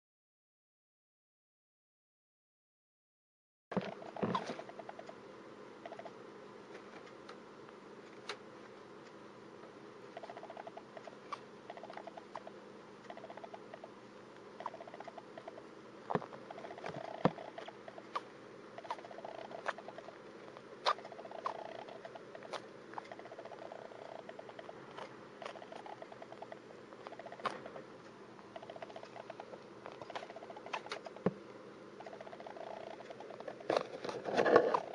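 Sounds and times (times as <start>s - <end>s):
soft rapid ticking: 3.8s - 6.4s, 7.0s - 34.2s.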